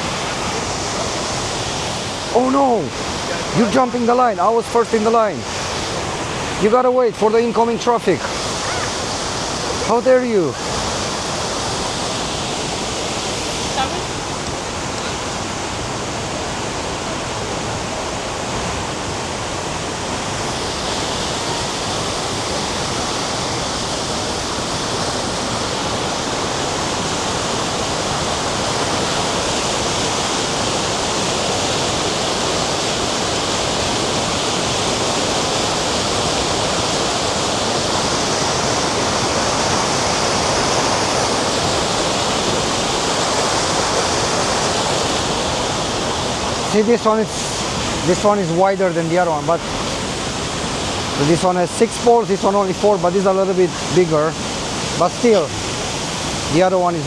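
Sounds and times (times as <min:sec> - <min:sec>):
heavy rain: 0:00.0 - 0:57.0
waterfall roar: 0:00.0 - 0:57.0.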